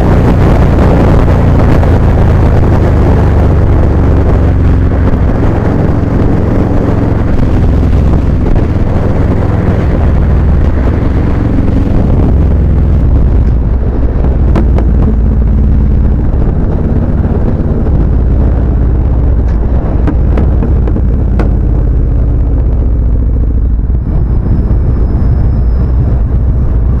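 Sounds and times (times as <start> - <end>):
motorcycle engine rumble: 0.0 - 27.0
wind buffeting microphone: 0.0 - 27.0.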